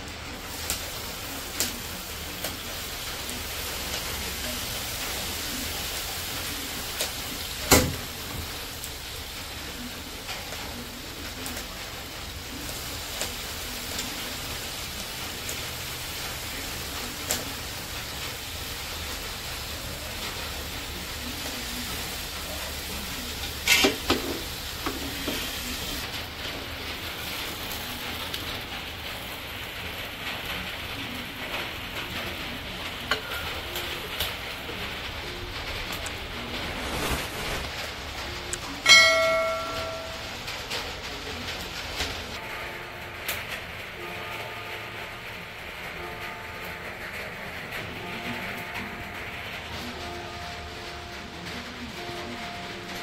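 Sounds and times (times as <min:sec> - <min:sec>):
bread sizzling in a pan: 0:00.0 - 0:42.5.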